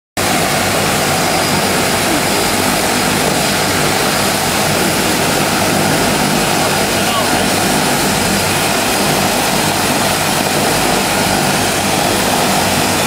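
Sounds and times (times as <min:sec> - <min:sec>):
small aircraft engine drone: 0:00.2 - 0:13.0.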